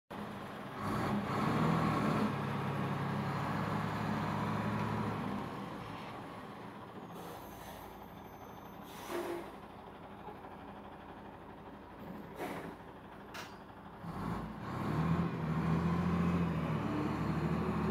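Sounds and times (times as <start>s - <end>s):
dump truck diesel engine: 0.1s - 17.9s.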